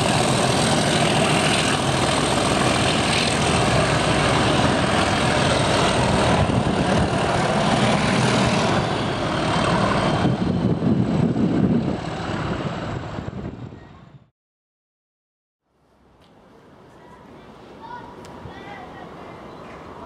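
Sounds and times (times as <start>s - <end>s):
diesel locomotive engines: 0.0s - 14.3s, 16.6s - 20.0s.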